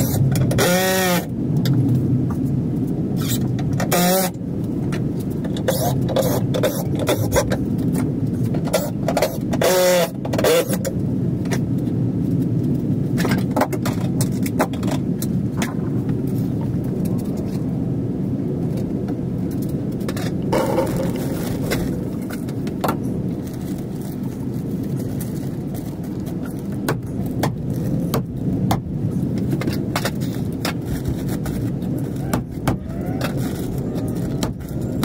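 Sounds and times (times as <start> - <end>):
low rumble: 1.3 - 9.6, 10.2 - 35.0.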